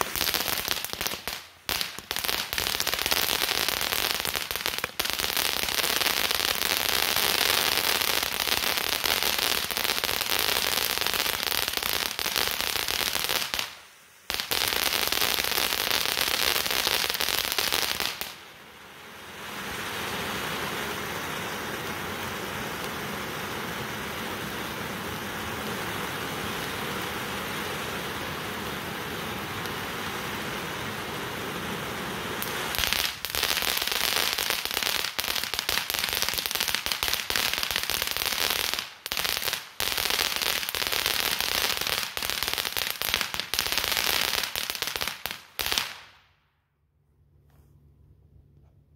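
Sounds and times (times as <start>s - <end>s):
firework crackling and hissing: 0.0s - 46.5s.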